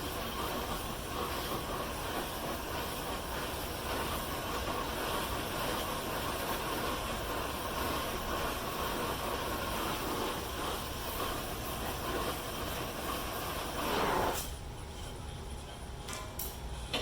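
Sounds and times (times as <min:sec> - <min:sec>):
welding arc hissing: 0:00.0 - 0:14.7.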